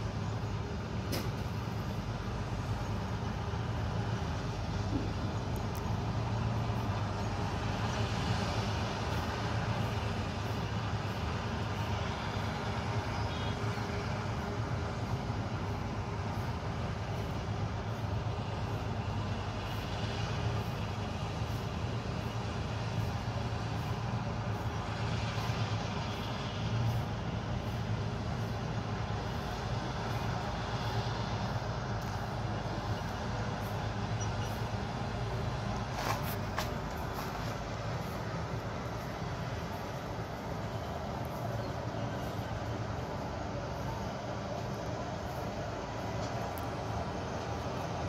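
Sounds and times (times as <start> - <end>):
combine harvester drone: 0.0 - 48.0.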